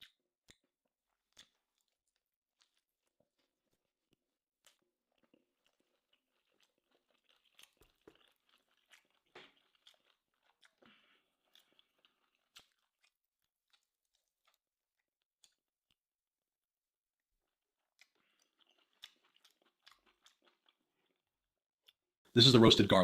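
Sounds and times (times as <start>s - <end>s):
chewing and crunching steak: 0.0s - 16.3s, 17.2s - 22.1s.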